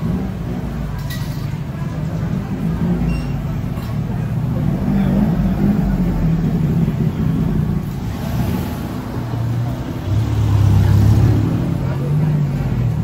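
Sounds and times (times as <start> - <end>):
road noise: 0.0 - 13.0
vehicle engines humming: 0.0 - 13.0
deep loud engine: 1.8 - 13.0.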